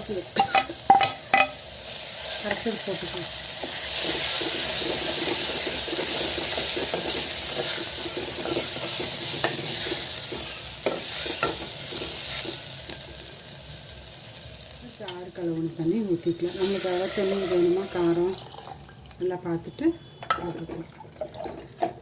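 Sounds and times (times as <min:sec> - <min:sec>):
paste sizzling in hot oil: 0:00.0 - 0:19.3.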